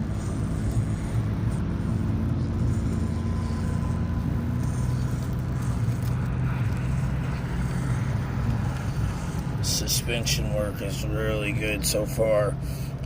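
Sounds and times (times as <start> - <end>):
small electric motor and gears: 0.0 - 13.0.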